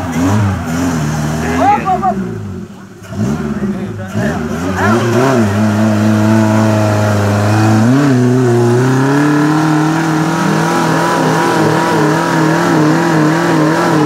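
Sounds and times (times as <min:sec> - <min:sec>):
car engine revving hard: 0:00.0 - 0:14.0.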